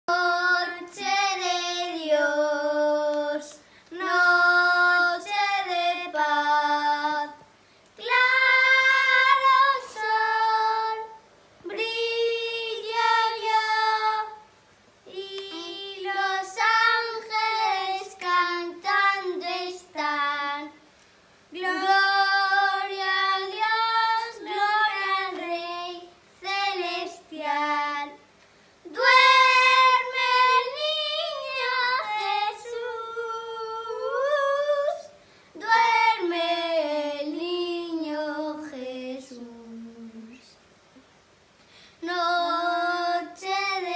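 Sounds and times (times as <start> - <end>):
boys singing unaccompanied: 0.1 - 14.5, 15.1 - 20.8, 21.6 - 28.2, 28.9 - 40.4, 42.0 - 43.9.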